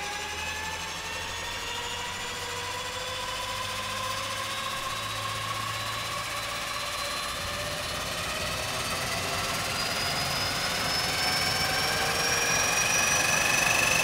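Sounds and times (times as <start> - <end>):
turboprop engine whine rising: 0.0 - 14.0.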